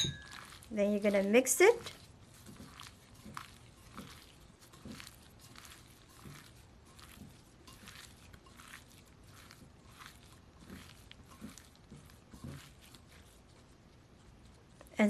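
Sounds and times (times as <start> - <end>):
soft squelches of raw chicken: 0.3 - 15.0.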